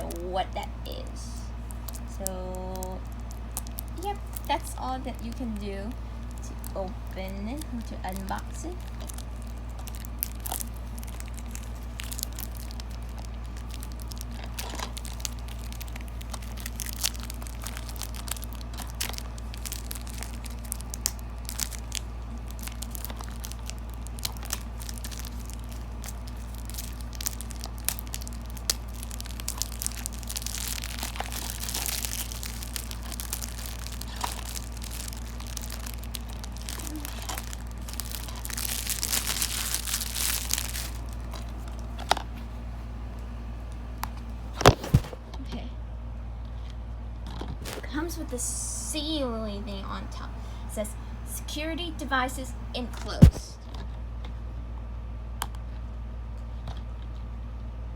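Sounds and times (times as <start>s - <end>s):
plastic shrink wrap crinkling: 0.0s - 45.2s, 47.6s - 48.4s, 53.0s - 53.5s.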